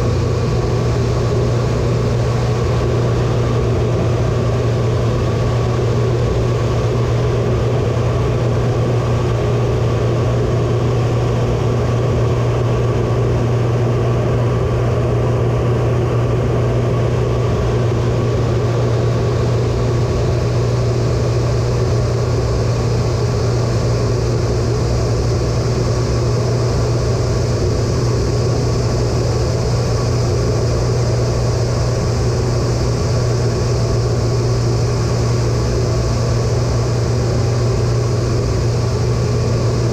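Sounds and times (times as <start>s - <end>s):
jet cockpit engine hum: 0.0s - 39.9s.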